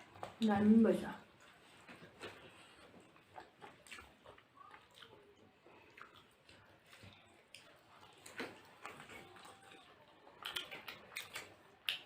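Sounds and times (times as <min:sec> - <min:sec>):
close-up chewing: 0:00.0 - 0:12.0.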